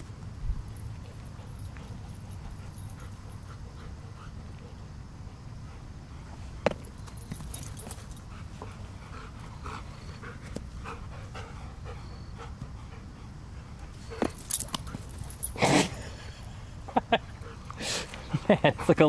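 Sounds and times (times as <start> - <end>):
dog panting: 0.8 - 6.6, 7.2 - 19.0.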